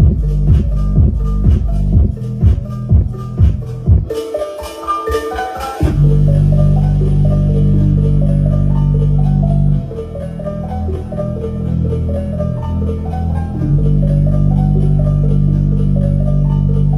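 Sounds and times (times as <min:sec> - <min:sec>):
deep held bass notes: 0:00.0 - 0:04.2, 0:05.8 - 0:16.9.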